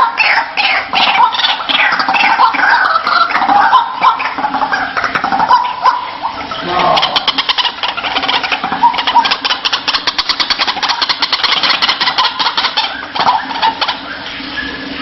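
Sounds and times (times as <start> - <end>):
bird calling harsh croaking pulses: 0.0 - 15.0.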